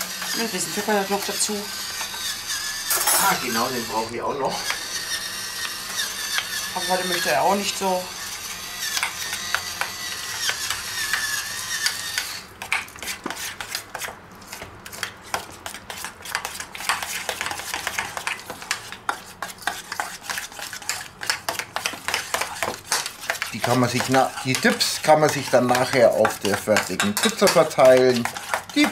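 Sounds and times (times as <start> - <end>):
stick blender motor whining: 0.0 - 15.2, 19.6 - 28.9
spoon scraping a steel bowl: 0.0 - 28.9.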